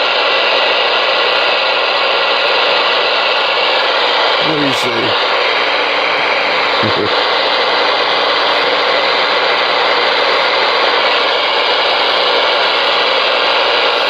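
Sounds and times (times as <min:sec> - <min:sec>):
radio static hiss: 0:00.6 - 0:14.0.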